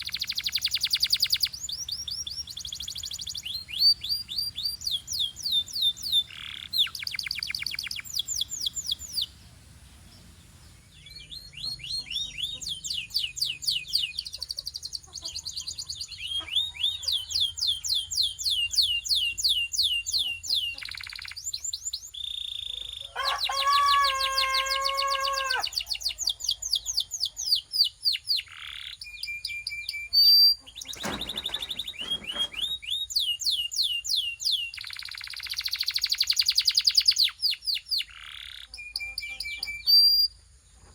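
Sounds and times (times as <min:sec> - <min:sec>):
canary singing trills: 0:00.0 - 0:40.5.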